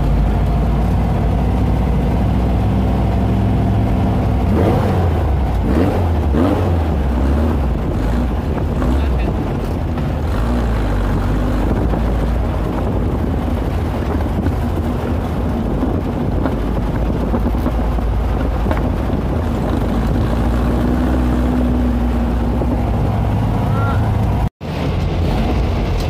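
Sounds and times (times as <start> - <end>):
car engine running: 0.0 - 26.0
wind buffeting microphone: 0.0 - 26.0.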